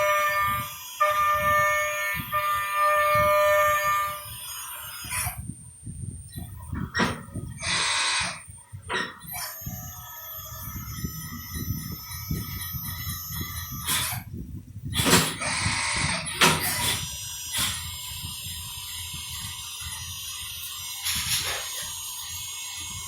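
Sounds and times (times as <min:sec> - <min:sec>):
end mill cutting metal: 0:00.0 - 0:05.5, 0:06.7 - 0:14.3, 0:14.9 - 0:23.0
milling machine spindle whine: 0:00.0 - 0:23.0.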